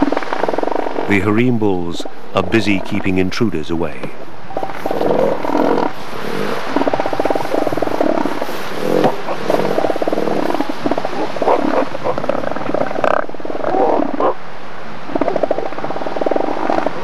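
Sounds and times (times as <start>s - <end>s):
seals gurgling calls: 0.0s - 3.1s, 4.0s - 17.0s
seals throbbing calls: 0.0s - 3.2s, 3.9s - 17.0s.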